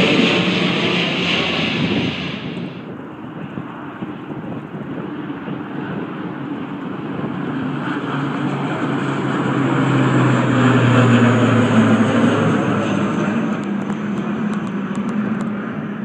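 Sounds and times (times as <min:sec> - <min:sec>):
low propeller hum: 0:00.0 - 0:16.0
propeller airplane passing overhead: 0:00.0 - 0:16.0.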